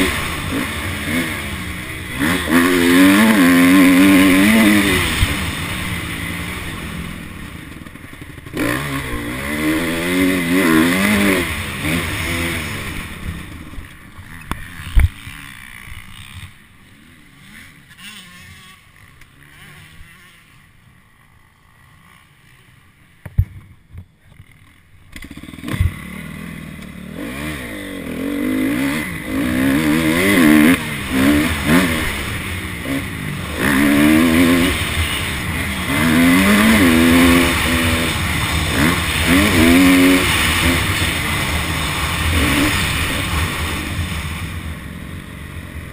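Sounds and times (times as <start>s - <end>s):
dirt bike engine revving: 0.0s - 23.1s, 24.4s - 45.9s.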